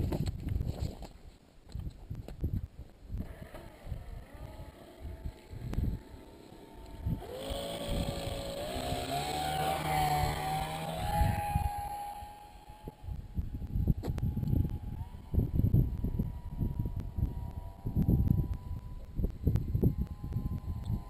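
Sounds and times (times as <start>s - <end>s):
wind on microphone: 0.0s - 21.0s
model airplane motor whine: 3.2s - 21.0s.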